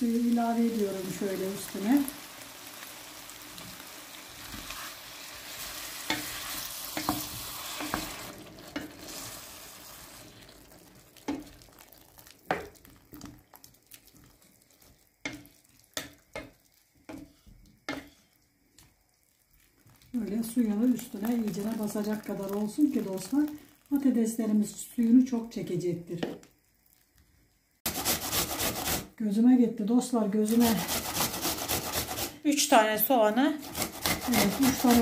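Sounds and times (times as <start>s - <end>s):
water sizzling in a hot pan: 0.0s - 29.1s, 30.2s - 35.0s.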